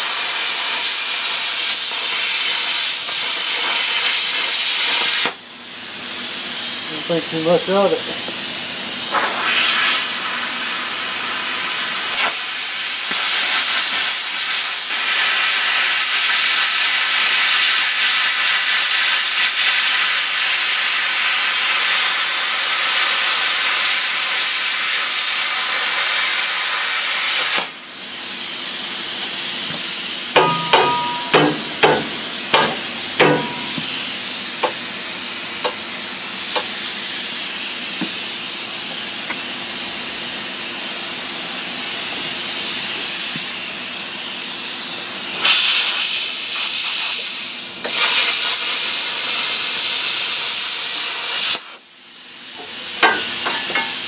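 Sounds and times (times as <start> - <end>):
plasma cutter hissing: 0.0 - 54.0.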